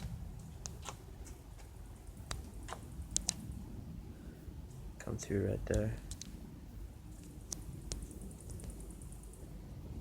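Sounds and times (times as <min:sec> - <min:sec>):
rapid high ticking: 0:00.0 - 0:03.8, 0:04.5 - 0:09.6
distant aircraft rumble: 0:00.0 - 0:10.0.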